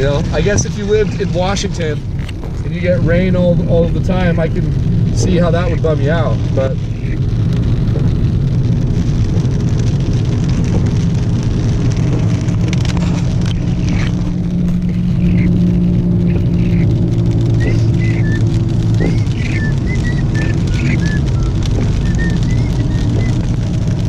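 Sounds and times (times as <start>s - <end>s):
car engine and tyre drone: 0.0s - 24.0s.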